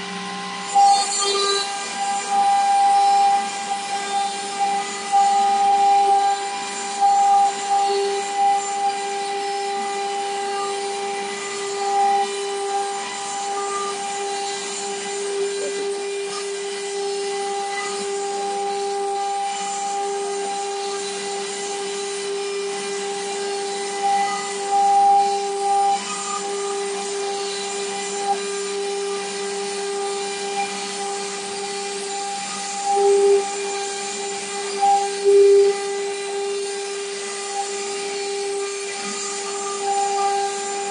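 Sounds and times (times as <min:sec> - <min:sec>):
cutter grinding stone: 0:00.0 - 0:40.9
router spindle whine: 0:00.0 - 0:40.9.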